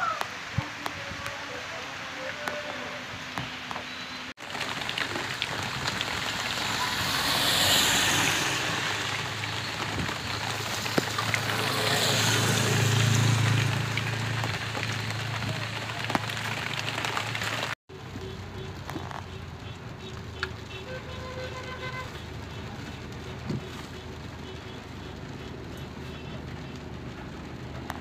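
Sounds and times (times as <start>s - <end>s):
heavy rain on a street: 0.0s - 28.0s
vehicles passing on wet road: 0.0s - 28.0s.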